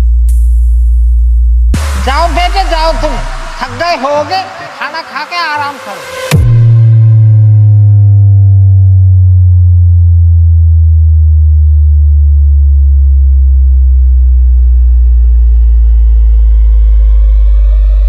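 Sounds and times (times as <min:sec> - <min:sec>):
deep sine bass sliding down: 0:00.0 - 0:18.0.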